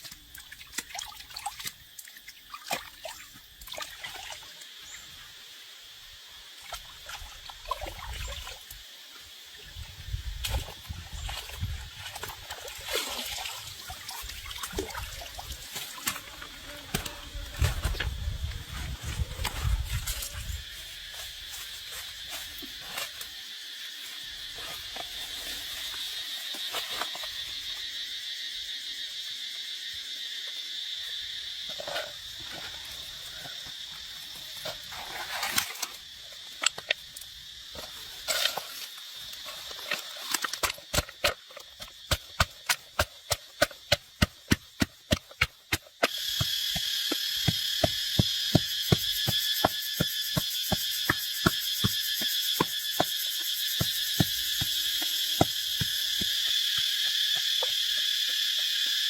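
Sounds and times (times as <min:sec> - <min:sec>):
insects chorus: 0:00.0 - 0:59.0.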